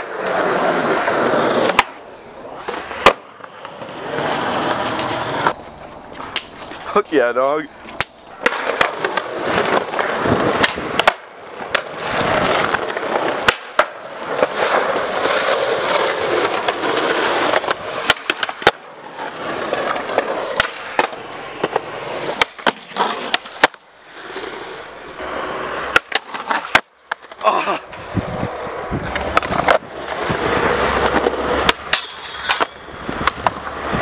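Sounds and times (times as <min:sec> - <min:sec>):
skateboard clacking on ground: 0:00.0 - 0:02.0, 0:02.6 - 0:34.0
skateboard wheels rolling on concrete: 0:00.0 - 0:34.0.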